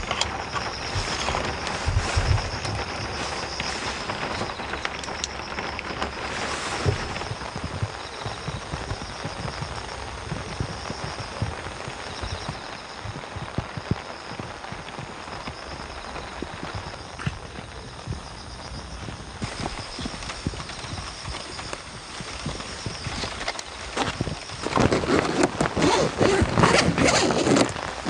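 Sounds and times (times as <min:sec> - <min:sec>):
heavy rain falling: 0:00.0 - 0:28.0
raindrops knocking on hard surface: 0:00.0 - 0:28.0.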